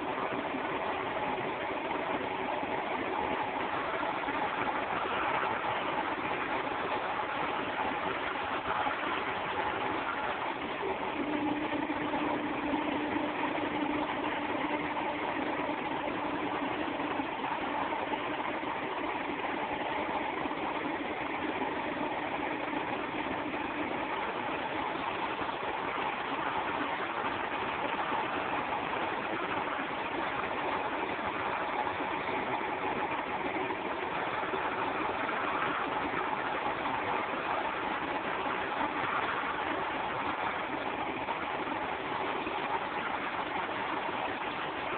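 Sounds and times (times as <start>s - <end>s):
milling machine whining: 0.0s - 44.9s.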